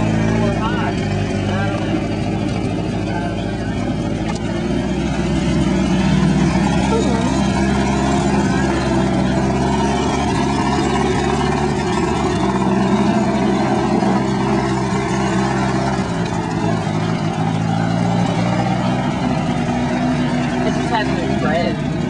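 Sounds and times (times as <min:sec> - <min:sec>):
jeep engine running: 0:00.0 - 0:22.0.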